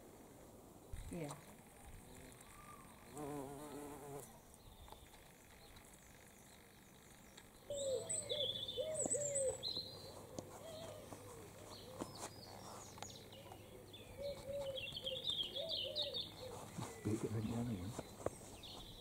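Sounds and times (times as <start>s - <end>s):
small birds chirping and trilling: 0.9s - 19.0s.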